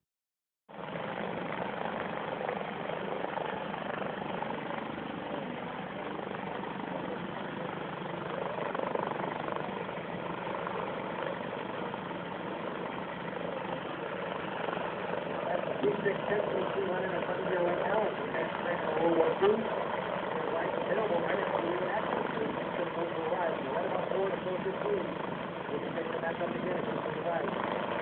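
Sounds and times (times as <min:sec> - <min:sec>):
propeller airplane engine droning: 0:00.7 - 0:28.0.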